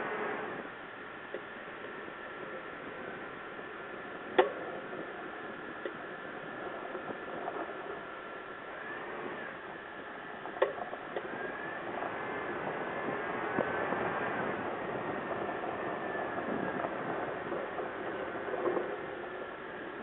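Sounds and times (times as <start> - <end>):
truck running noise: 0.0 - 20.0.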